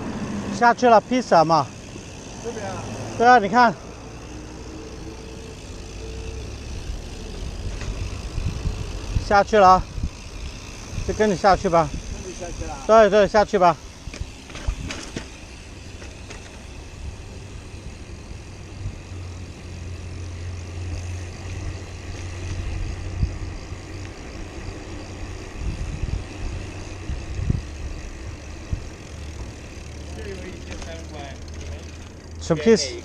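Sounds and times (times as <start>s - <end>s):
road noise: 0.0s - 33.0s
vehicle engine humming: 0.0s - 33.0s.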